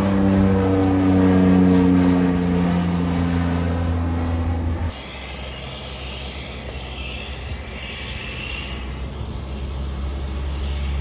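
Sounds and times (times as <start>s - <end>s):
propeller engine drone: 0.0s - 11.0s.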